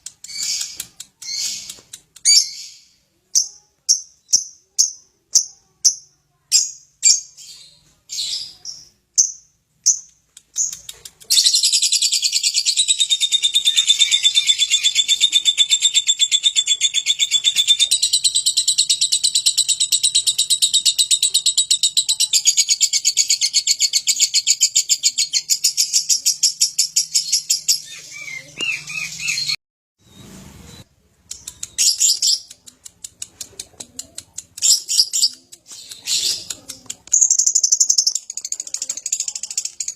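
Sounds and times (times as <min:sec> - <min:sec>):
lovebird chirping and trilling: 0:00.2 - 0:32.6, 0:34.6 - 0:39.9.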